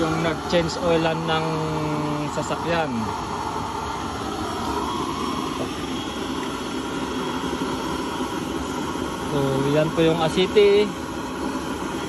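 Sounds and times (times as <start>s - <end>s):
oil stove burner rushing: 0.0s - 12.0s.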